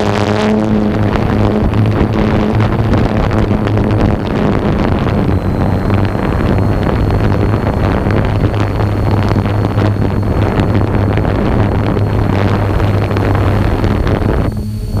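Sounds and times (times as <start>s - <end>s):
drone propellers humming: 0.0s - 15.0s
faint high whine: 0.0s - 15.0s
wind buffeting microphone: 0.0s - 15.0s.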